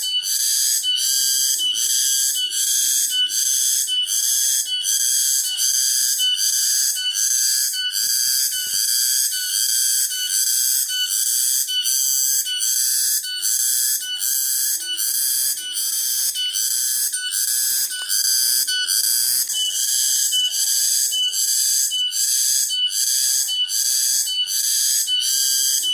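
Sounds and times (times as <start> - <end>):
cicadas buzzing in pulses: 0.0 - 25.9.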